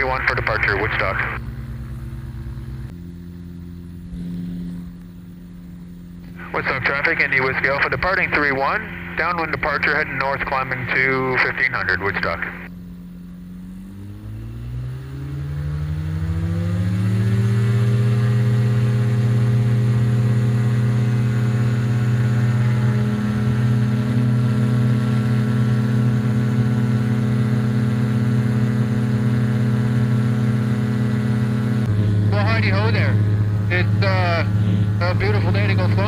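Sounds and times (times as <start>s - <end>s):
ultralight aircraft engine and propeller: 0.0s - 36.0s.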